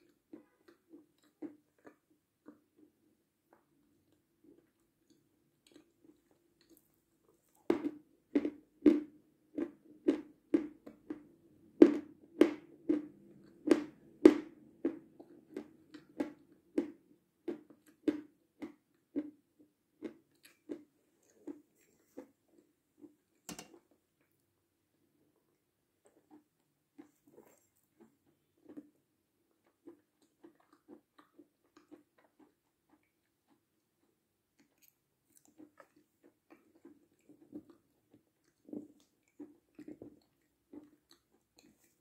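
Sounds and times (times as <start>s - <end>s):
person chewing crunchy food: 0.0s - 23.9s, 25.4s - 42.0s.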